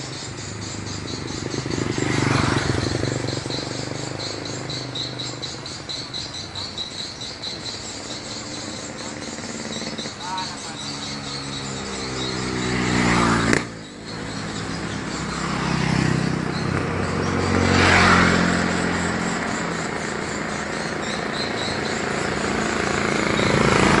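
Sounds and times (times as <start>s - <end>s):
rapid high chirps: 0.0s - 24.0s
vehicle engines passing: 0.0s - 24.0s.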